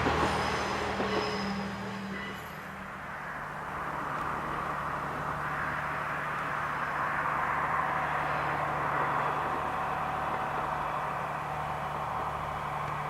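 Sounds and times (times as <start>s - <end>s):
diesel railcar engine drone: 0.0s - 13.0s.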